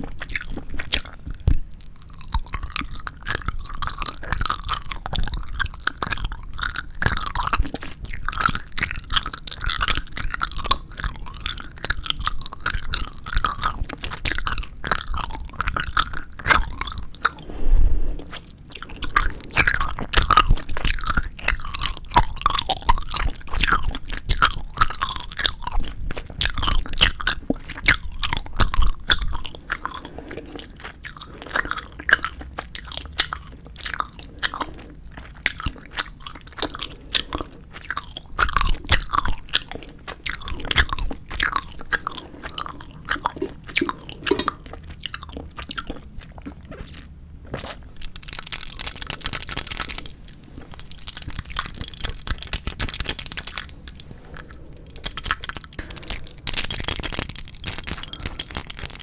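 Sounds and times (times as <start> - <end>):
chewing gummy candy: 0.0 - 59.0
wet mouth sounds: 0.0 - 59.0.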